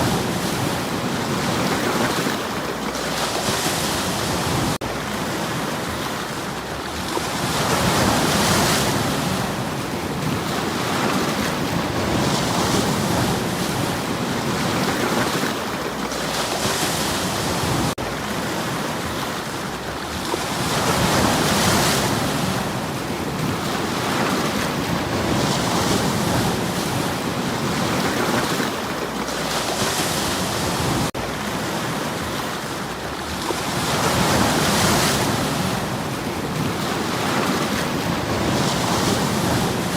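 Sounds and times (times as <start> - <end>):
rumble of surf: 0.0 - 39.9
sea waves breaking on stony shore: 0.0 - 39.9.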